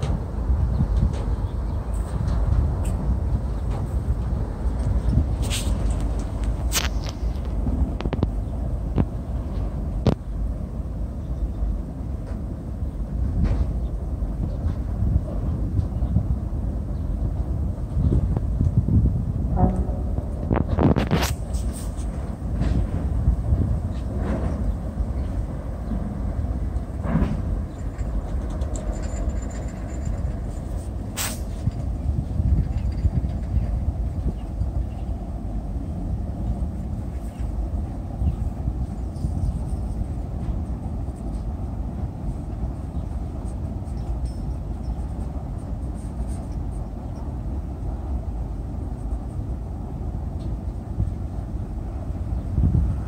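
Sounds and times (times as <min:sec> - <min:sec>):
freight train rumbling over bridge: 0:00.0 - 0:53.0.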